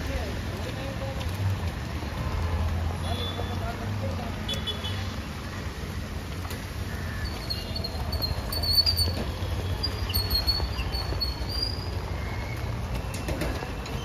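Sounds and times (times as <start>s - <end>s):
traffic on wet road: 0.0s - 14.0s.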